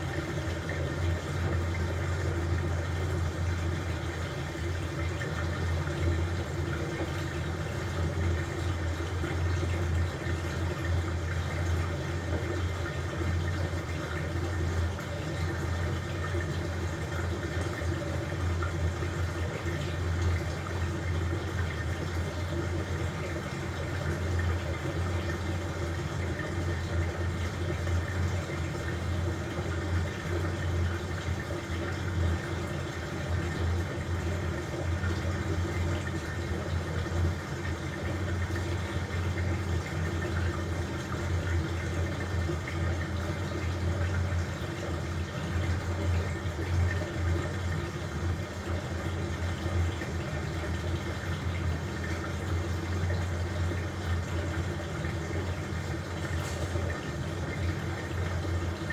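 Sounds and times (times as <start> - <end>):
washing machine motor hum: 0.0 - 58.9
water sloshing in washing machine: 0.0 - 58.9.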